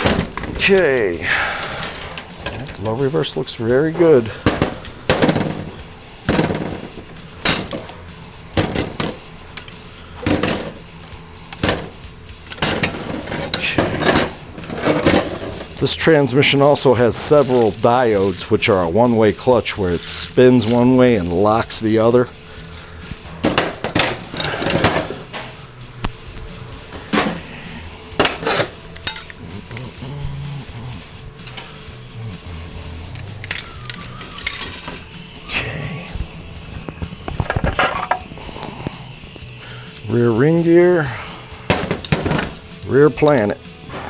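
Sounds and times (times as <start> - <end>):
steel parts clanking and knocking: 0.0 - 40.1, 41.1 - 44.0.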